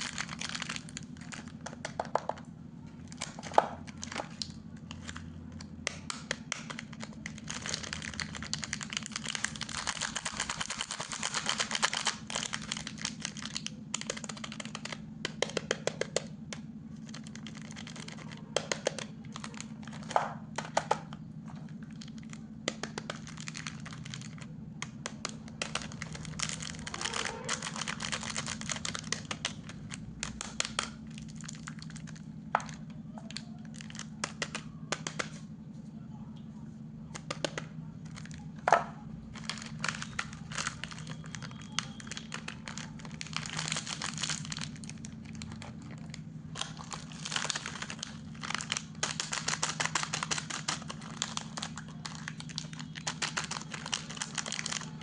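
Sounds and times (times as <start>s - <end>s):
plastic wrapper crinkling: 0.0s - 35.4s, 37.1s - 55.0s
low steady hum: 0.0s - 55.0s.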